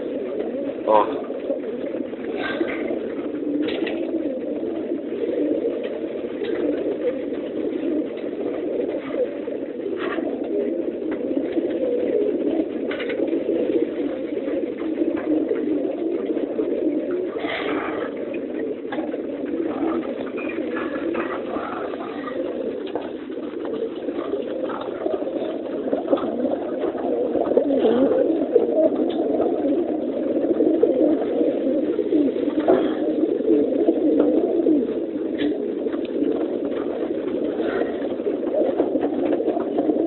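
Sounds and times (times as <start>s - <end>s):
pigeons cooing: 0.0s - 40.0s.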